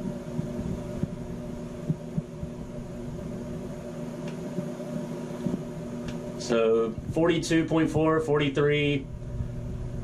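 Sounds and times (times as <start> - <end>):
fans humming: 0.0 - 10.0.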